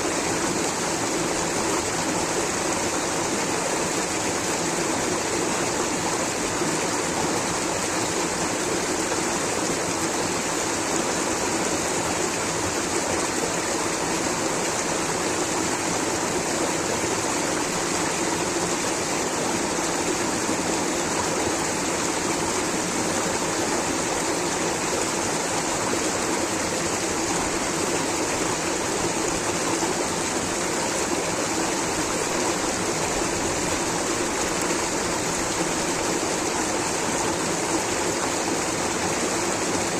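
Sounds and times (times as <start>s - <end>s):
rushing water of a stream: 0.0s - 39.9s.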